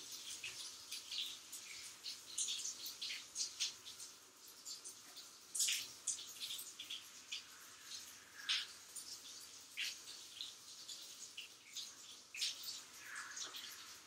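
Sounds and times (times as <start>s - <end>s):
shower water splashing on fur: 0.0s - 14.0s.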